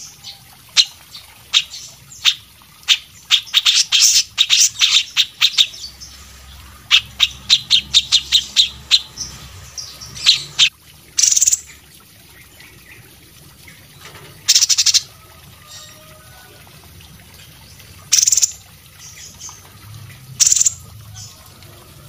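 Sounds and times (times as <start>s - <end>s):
songbird singing: 0.0s - 16.0s, 17.4s - 21.4s.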